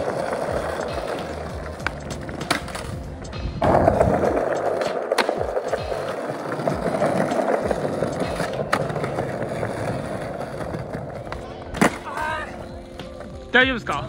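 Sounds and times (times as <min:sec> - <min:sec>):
background music: 0:00.0 - 0:14.0
skateboard clacking: 0:00.0 - 0:14.0
skateboard wheels rolling on stone: 0:00.0 - 0:14.0.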